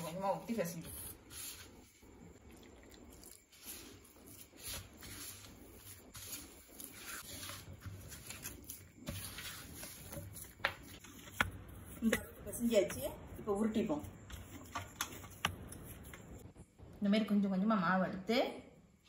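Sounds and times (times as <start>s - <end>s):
hand squishing dough in a bowl: 0.0s - 16.4s.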